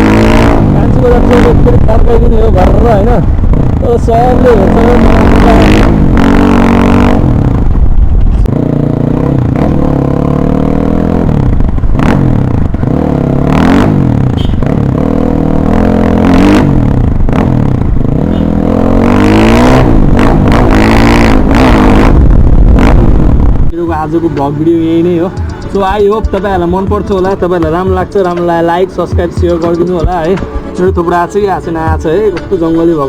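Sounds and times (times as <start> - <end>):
loud motorcycle engine revving: 0.0 - 30.4.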